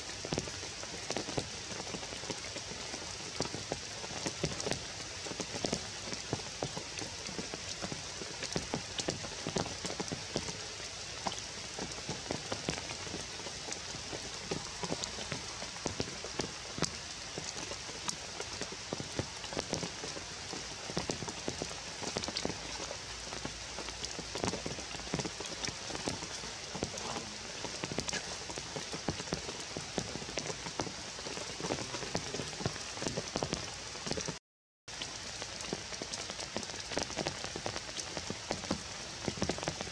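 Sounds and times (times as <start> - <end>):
rain on leaves: 0.0 - 39.9
sharp water drips: 0.0 - 39.9.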